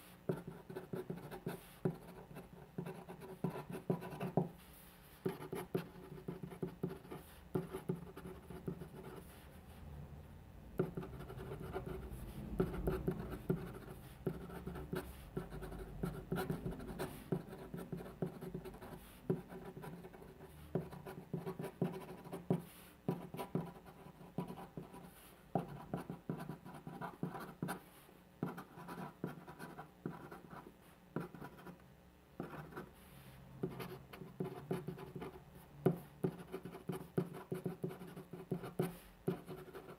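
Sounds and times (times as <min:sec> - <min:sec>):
pen scratching on paper: 0:00.3 - 0:04.6, 0:05.2 - 0:09.4, 0:10.8 - 0:27.8, 0:28.4 - 0:31.7, 0:32.4 - 0:32.9, 0:33.6 - 0:39.9.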